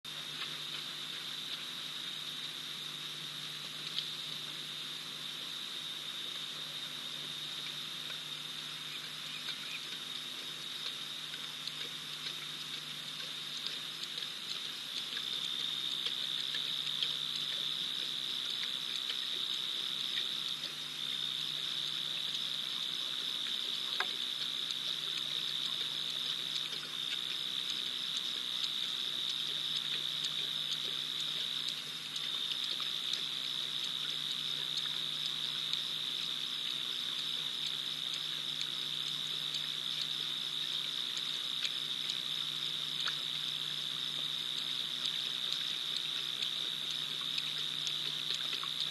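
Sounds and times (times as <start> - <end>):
crickets trilling: 0.1 - 48.9
faint ticks: 0.1 - 48.9.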